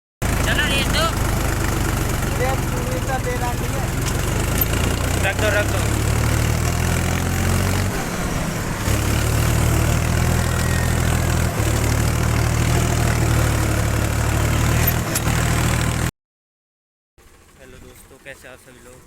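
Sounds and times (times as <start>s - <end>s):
tractor diesel engine running: 0.2s - 16.1s, 17.2s - 19.0s.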